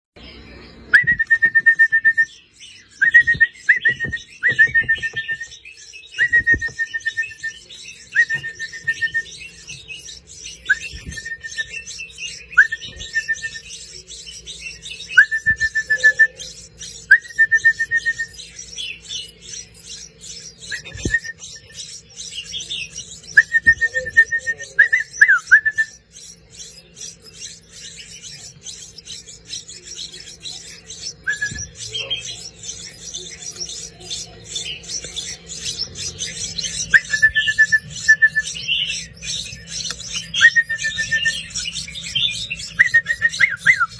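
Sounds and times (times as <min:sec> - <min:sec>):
baby birds piping calls: 0:00.2 - 0:43.9.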